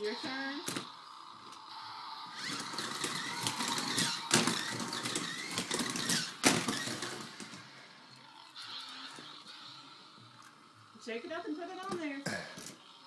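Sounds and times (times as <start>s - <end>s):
toy race car whirring and rattling: 0.0s - 13.0s.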